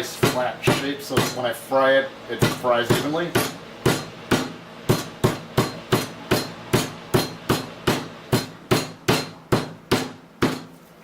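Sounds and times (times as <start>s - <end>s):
mallet pounding meat: 0.0s - 1.5s, 2.4s - 10.8s.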